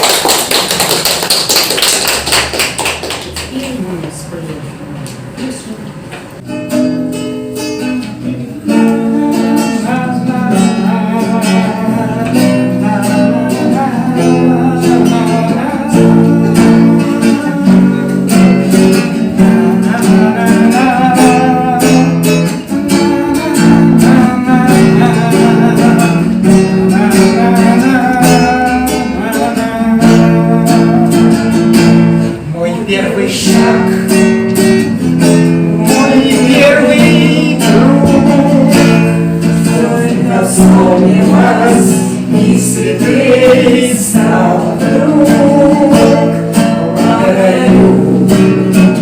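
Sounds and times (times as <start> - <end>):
acoustic guitar strumming chords: 4.7 - 49.0.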